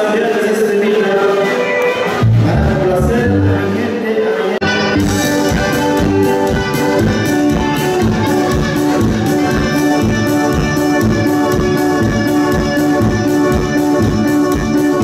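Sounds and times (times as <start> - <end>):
live band dance music: 0.0 - 15.0.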